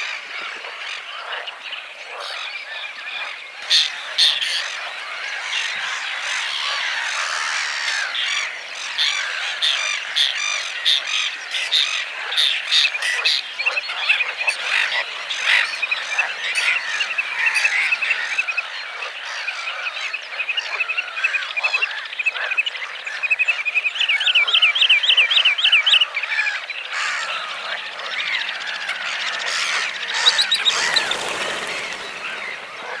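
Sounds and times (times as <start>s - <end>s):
bird calls: 0.0s - 33.0s
frogs calling: 0.5s - 33.0s.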